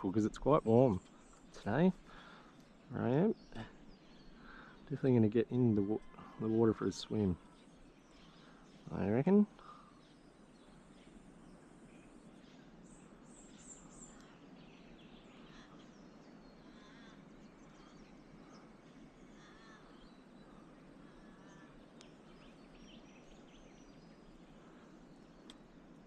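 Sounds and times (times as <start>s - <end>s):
faint bird chirps: 0.0s - 26.0s
quiet outdoor background noise: 0.0s - 26.0s.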